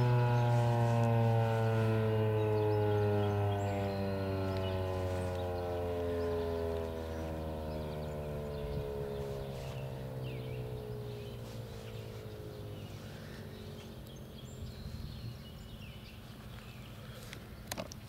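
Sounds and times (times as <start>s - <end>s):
warning siren winding down: 0.0s - 15.1s.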